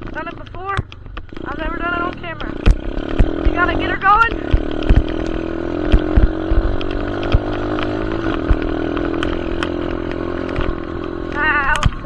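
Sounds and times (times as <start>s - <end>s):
sharp knocks: 0.0s - 3.8s, 4.4s - 12.0s
dirt bike engine: 0.0s - 12.0s.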